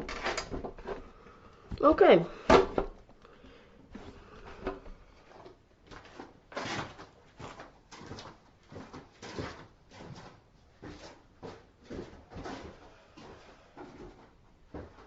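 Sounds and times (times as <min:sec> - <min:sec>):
things scraping and rustling: 0:00.0 - 0:02.3, 0:03.9 - 0:15.0.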